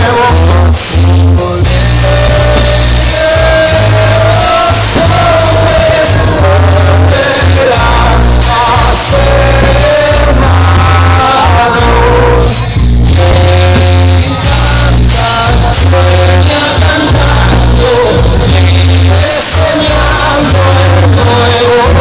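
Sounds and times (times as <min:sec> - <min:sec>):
heavy pulsing bass line: 0:00.0 - 0:22.0
loud music with singing: 0:00.0 - 0:22.0.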